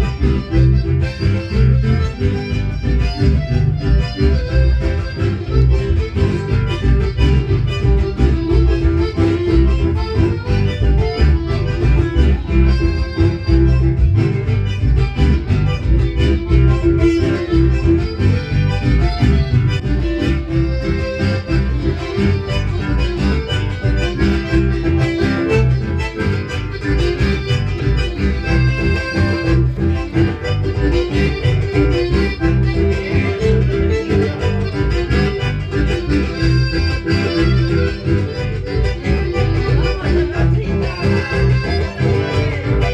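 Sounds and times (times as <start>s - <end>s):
latin dance band playing: 0.0s - 42.9s.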